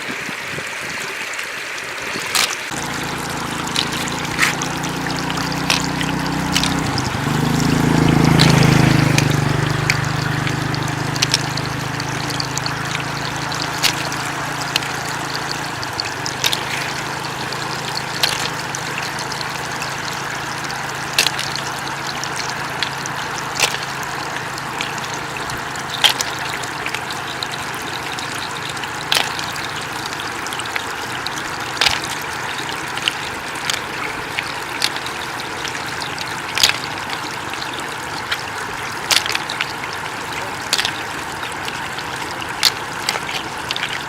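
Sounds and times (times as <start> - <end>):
floodwater running and trickling: 0.0 - 44.0.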